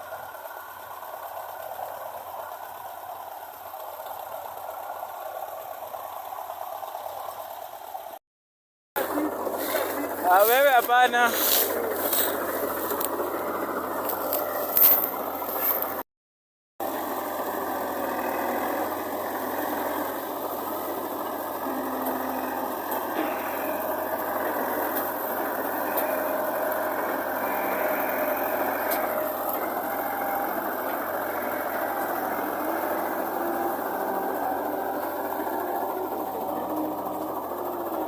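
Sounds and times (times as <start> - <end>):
diesel engine running: 0.0 - 8.2, 9.0 - 16.1, 16.8 - 38.0.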